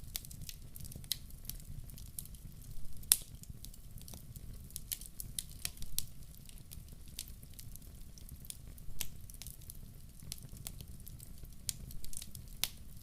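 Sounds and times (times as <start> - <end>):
log fire crackling: 0.0 - 13.0.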